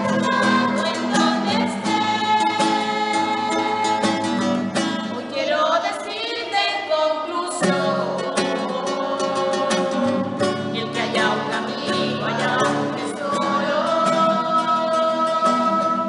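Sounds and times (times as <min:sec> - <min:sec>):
acoustic guitar strumming: 0:00.0 - 0:16.0
group of voices singing along: 0:00.0 - 0:16.0
woman singing: 0:00.0 - 0:16.0.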